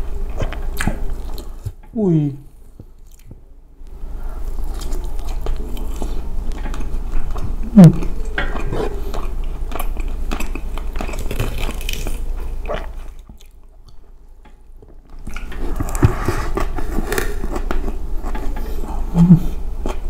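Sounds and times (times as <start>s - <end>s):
chewing and wet mouth sounds: 0.0s - 1.9s, 2.5s - 20.0s.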